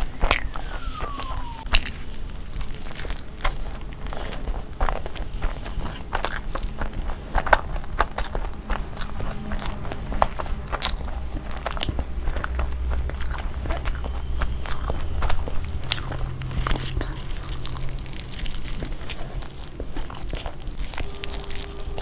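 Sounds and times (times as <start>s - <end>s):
chewing with mouth clicks: 0.0s - 22.0s.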